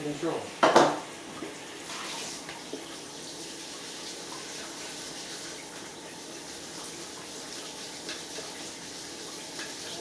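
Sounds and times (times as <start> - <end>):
water running from a tap: 0.0 - 10.0.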